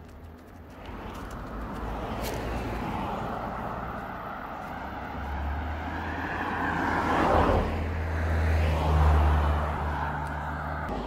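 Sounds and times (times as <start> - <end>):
cars driving past: 0.0 - 11.0.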